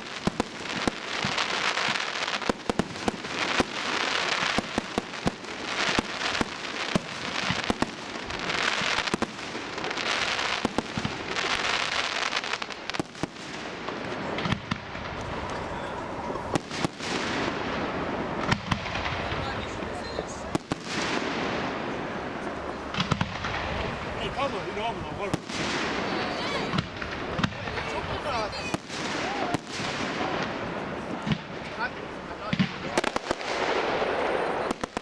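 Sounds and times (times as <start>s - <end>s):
firework bangs: 0.0s - 35.0s.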